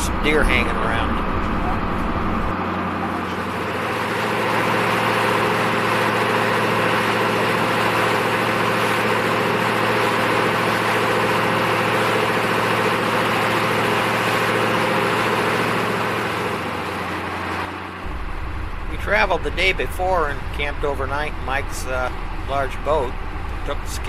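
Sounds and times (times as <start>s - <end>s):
boat engine droning: 0.0s - 24.0s
rushing water and wake: 3.4s - 24.0s.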